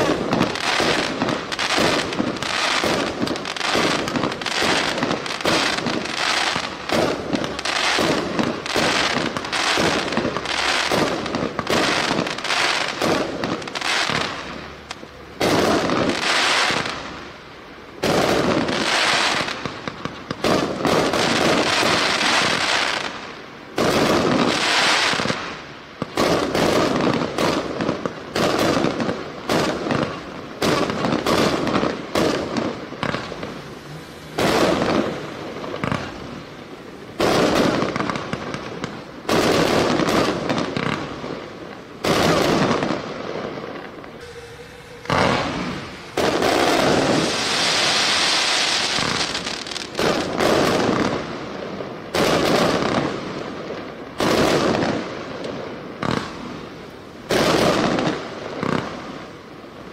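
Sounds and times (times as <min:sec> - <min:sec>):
dense firework crackling: 0:00.0 - 0:59.9
fireworks shots bursting: 0:00.0 - 0:59.9.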